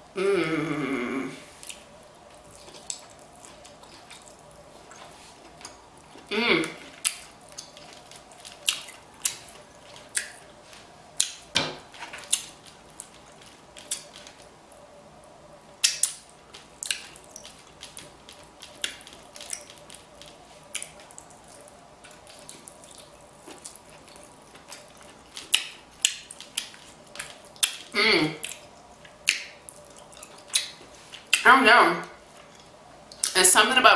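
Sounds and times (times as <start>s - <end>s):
wet chewing and smacking: 1.5s - 14.9s, 15.8s - 31.5s, 32.1s - 33.4s.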